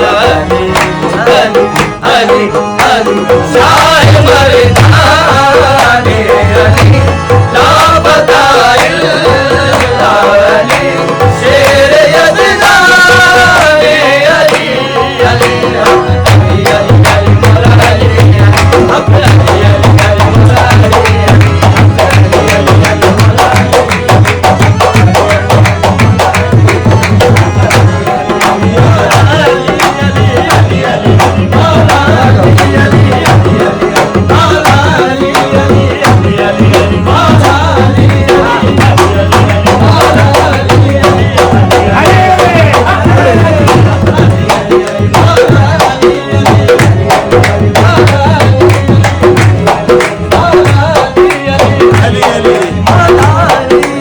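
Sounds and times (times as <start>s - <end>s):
tabla drumming: 0.0s - 54.0s.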